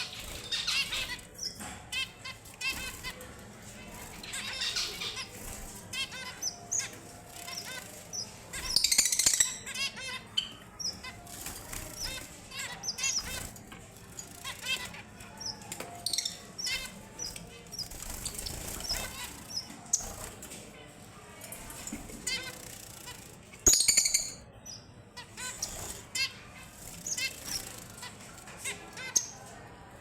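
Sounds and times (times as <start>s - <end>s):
finches chirping: 0.0s - 20.5s, 21.5s - 29.6s.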